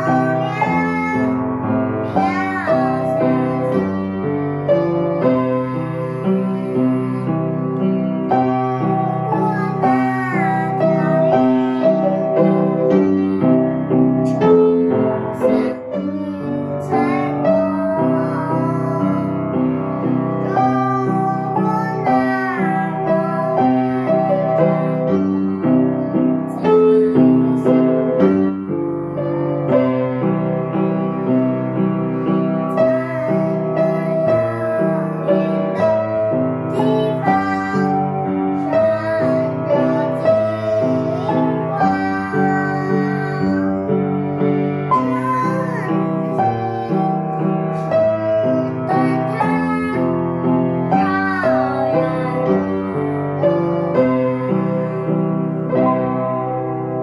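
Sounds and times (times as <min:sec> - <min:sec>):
girl singing: 0:00.0 - 0:56.4
piano accompaniment: 0:00.0 - 0:57.0.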